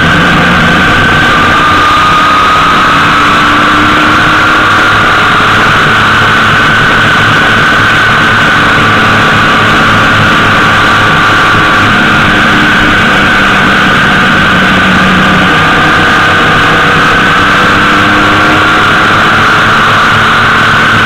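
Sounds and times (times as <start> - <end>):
motorcycle engine hum: 0.0 - 21.0
road and wind noise: 0.0 - 21.0.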